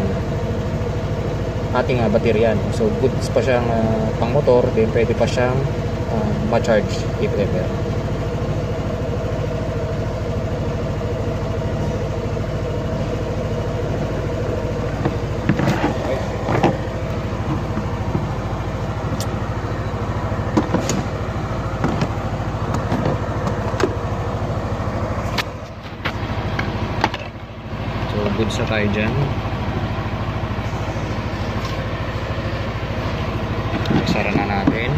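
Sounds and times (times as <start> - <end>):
scooter engine idling: 0.0 - 34.9.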